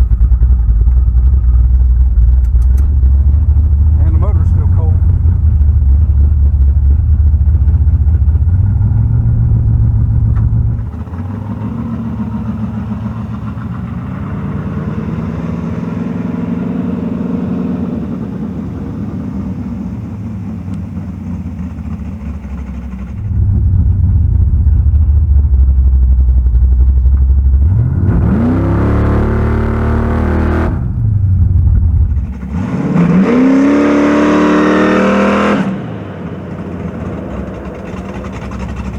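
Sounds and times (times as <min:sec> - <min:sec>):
car engine rumbling and revving: 0:00.0 - 0:38.9.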